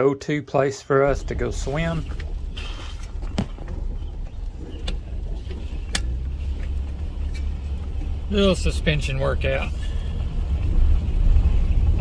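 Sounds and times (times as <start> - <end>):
engine and tyre rumble: 1.0 - 12.0
suspension knocks and rattles: 1.1 - 12.0.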